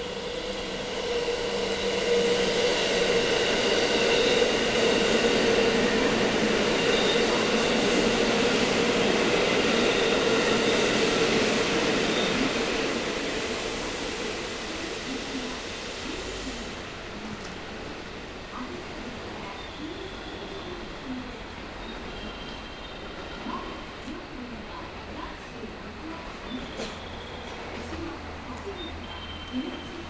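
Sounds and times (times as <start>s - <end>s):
electric train passing: 0.0s - 30.0s
train whine over wheel rumble: 0.0s - 30.0s.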